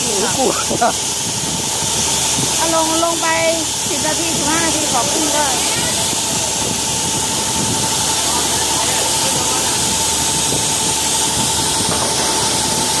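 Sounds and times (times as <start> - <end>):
air pump hiss with high whine: 0.0 - 13.0.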